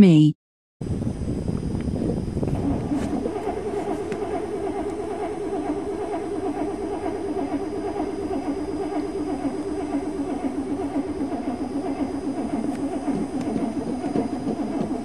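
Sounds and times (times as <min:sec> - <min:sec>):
car starter motor cranking engine: 0:01.8 - 0:15.0.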